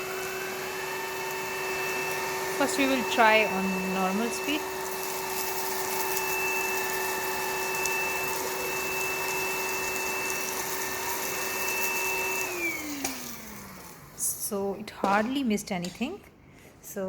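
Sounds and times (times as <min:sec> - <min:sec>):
vacuum cleaner motor whine: 0:00.0 - 0:14.8.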